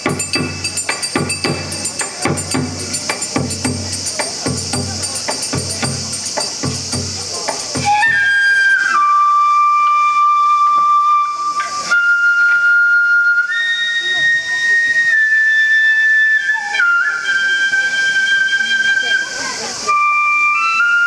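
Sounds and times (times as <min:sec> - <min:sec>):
bamboo flute slow melody: 0:00.0 - 0:21.0.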